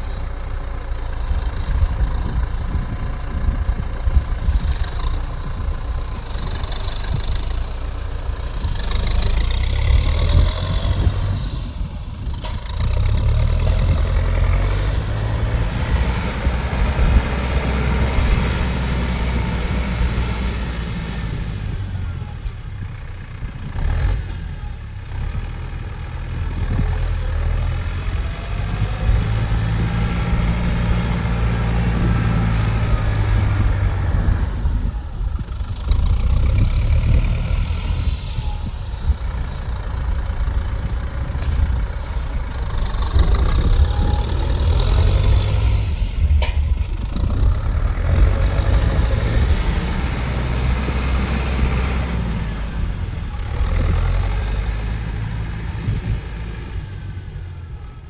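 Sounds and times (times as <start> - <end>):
high squeals: 0.0 - 22.4, 27.7 - 55.4
vehicle engine rumbling: 0.0 - 58.0.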